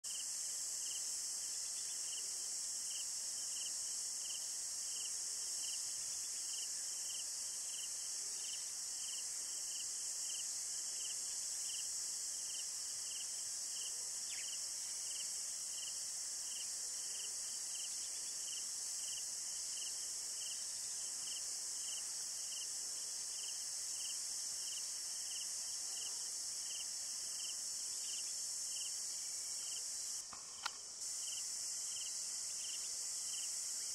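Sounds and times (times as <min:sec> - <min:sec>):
insect chirping: 0:00.1 - 0:33.9
insects buzzing chorus: 0:00.1 - 0:33.9.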